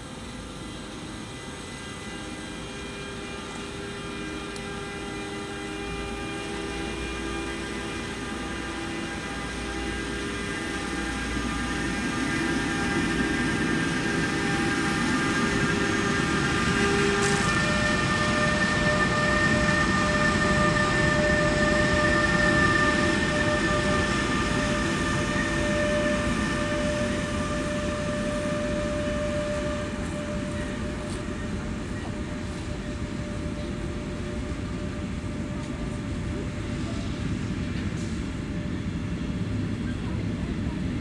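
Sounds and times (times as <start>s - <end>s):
high whine: 0.0s - 39.9s
freight train wheels rumbling: 0.0s - 41.0s.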